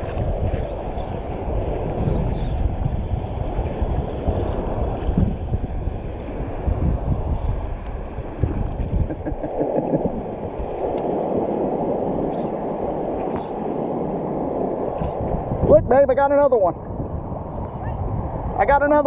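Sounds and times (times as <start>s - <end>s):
surf water washing: 0.0s - 19.0s
wind buffeting microphone: 0.0s - 19.0s.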